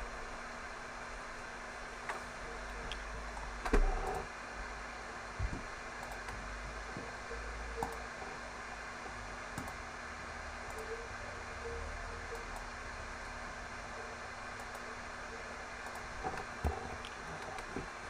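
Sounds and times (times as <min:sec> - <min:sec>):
microphone hiss and hum: 0:00.0 - 0:18.0.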